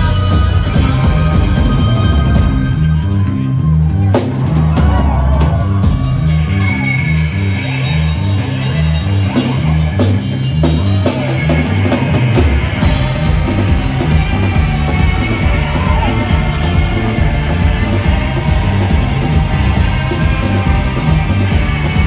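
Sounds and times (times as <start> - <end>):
drum kit: 0.0 - 3.0, 3.9 - 22.0
electric bass line: 0.0 - 22.0
electric guitar: 0.0 - 22.0.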